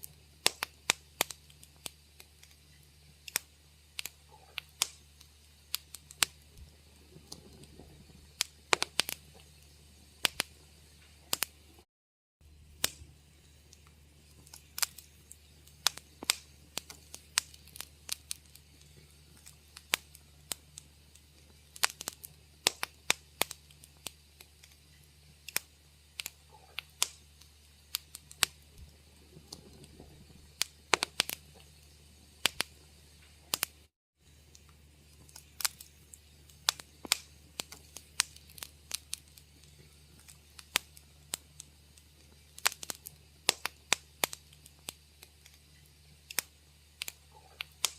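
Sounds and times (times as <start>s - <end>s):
faint low hum: 0.0s - 11.8s, 12.4s - 47.9s
wood fire crackling: 0.0s - 47.9s.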